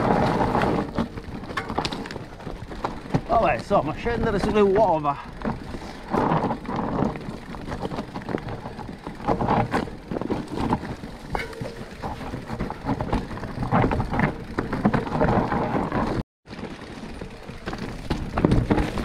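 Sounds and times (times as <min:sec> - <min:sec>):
bike rattling and knocking: 0:00.0 - 0:19.0
tyres crunching over loose stones: 0:00.0 - 0:19.0.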